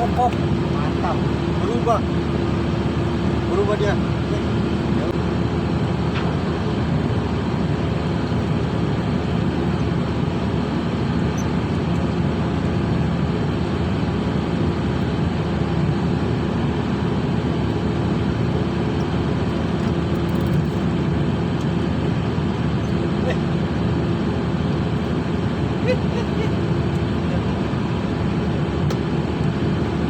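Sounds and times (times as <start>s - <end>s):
ship machinery drone: 0.0s - 30.0s.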